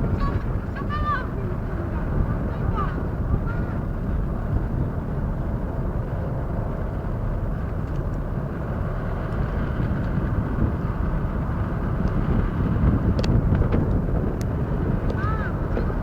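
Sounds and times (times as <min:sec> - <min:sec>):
ferry engines low rumble: 0:00.0 - 0:16.0.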